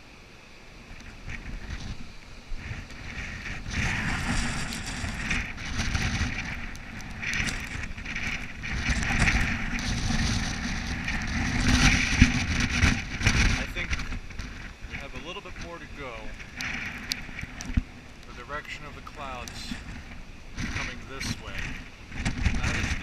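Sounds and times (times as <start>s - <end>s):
wind buffeting microphone: 0.8s - 23.0s.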